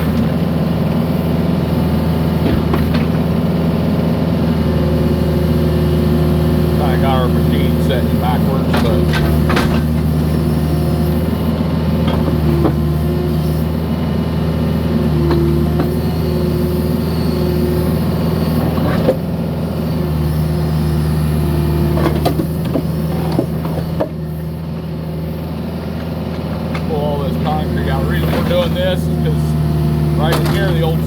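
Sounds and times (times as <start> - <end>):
excavator diesel engine running: 0.0 - 31.0
hydraulic whine: 0.0 - 31.0.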